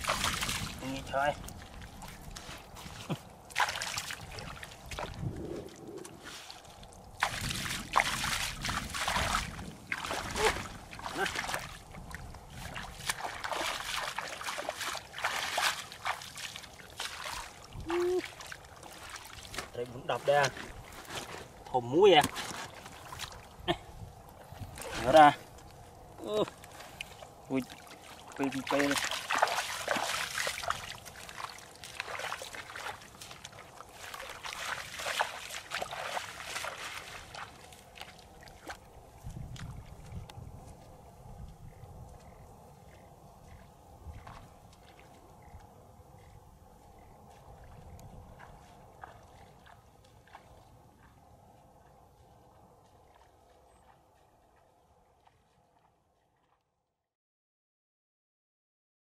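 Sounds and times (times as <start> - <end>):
footsteps wading through water: 0.0 - 56.8.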